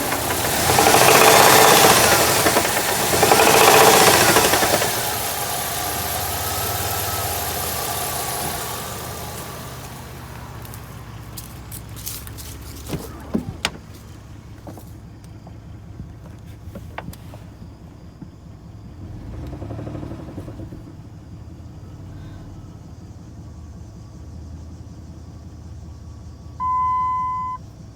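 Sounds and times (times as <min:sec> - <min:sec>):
car engine revving and idling: 0:00.0 - 0:27.9.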